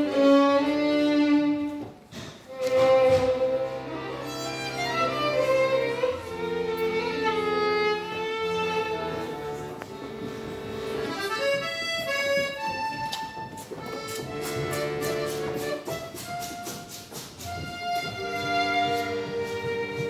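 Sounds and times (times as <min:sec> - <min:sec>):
accordion chords: 0:00.0 - 0:20.0
bowed violin melody: 0:00.0 - 0:20.0.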